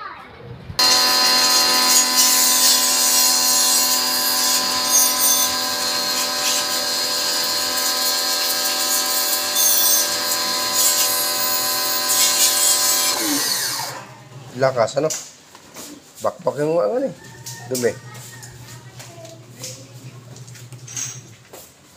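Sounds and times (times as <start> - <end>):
pressure washer humming: 0.8 - 14.8, 17.3 - 21.5.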